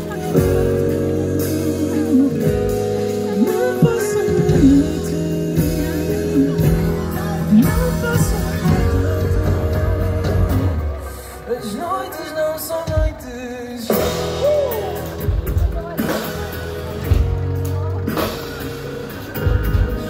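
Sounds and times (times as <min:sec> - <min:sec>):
man singing: 0:00.0 - 0:17.2
guitar: 0:00.0 - 0:20.0.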